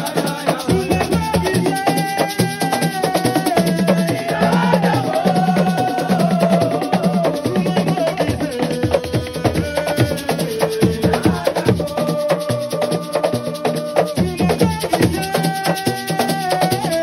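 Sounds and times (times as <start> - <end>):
fast dense drumming: 0.0 - 17.0
wood block and shaker percussion: 0.0 - 17.0.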